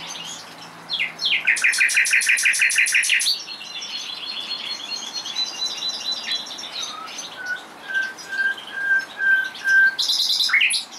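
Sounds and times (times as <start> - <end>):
nightingale singing: 0.0 - 10.9.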